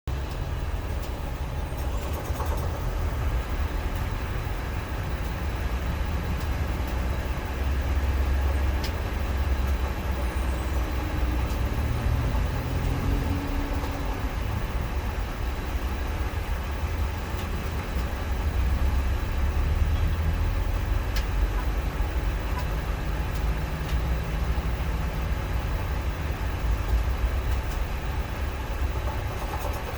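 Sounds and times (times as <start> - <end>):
car engine running with rattle: 0.1 - 29.9.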